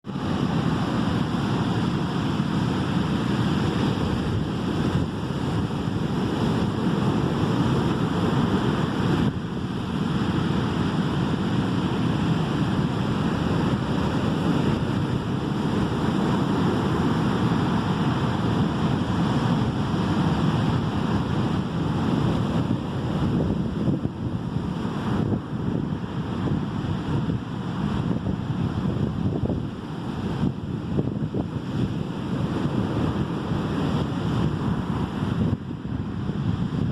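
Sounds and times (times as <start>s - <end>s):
sea surf washing ashore: 0.0s - 36.9s
wind buffeting microphone: 0.0s - 36.9s.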